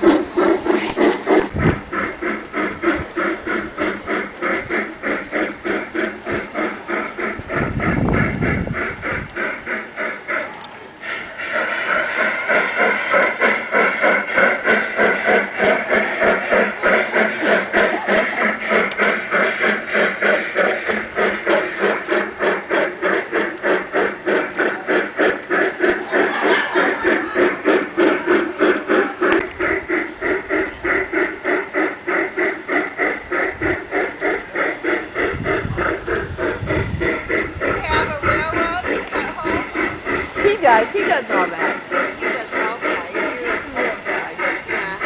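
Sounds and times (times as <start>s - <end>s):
model steam locomotive chuffing: 0.0s - 45.0s.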